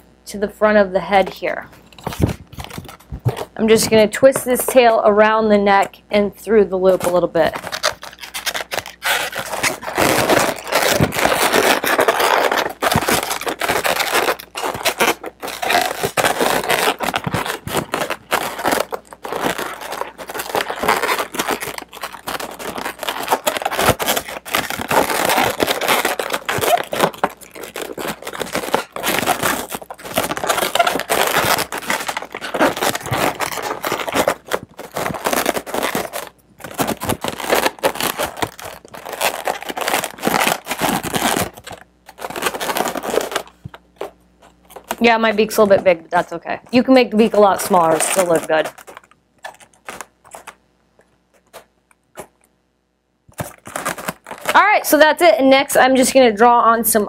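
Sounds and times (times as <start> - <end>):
balloons rubbing and scraping: 0.0 - 50.6, 51.3 - 52.4, 53.3 - 55.6.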